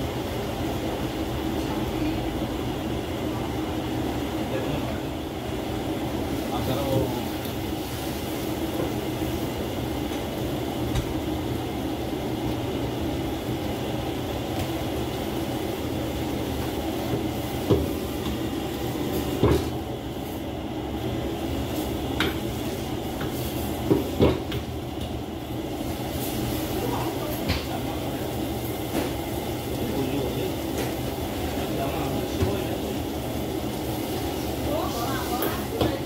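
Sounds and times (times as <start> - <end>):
gas burner running: 0.0 - 36.0
greens sizzling in wok: 5.6 - 36.0.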